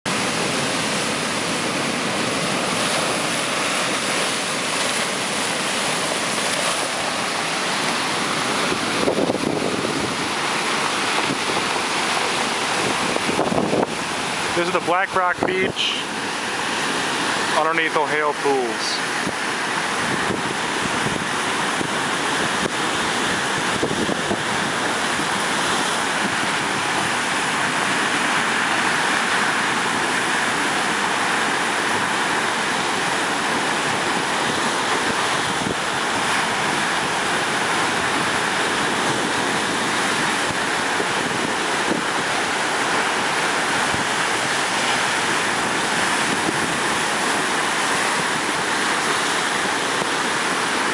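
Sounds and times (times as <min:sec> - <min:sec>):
ocean surf breaking on rocks: 0:00.1 - 0:50.9.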